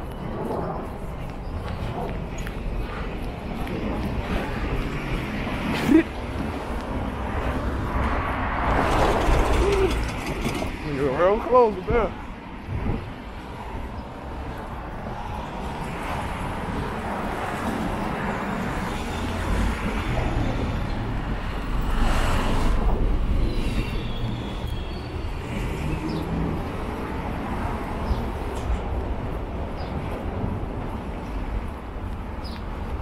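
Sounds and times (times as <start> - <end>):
subway train rumbling: 0.0 - 10.8, 13.5 - 32.3.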